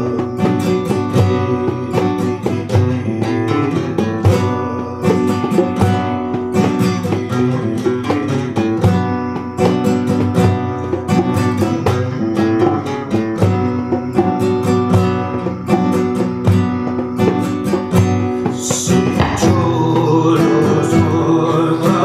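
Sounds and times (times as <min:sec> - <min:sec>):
classical acoustic guitar: 0:00.0 - 0:22.0.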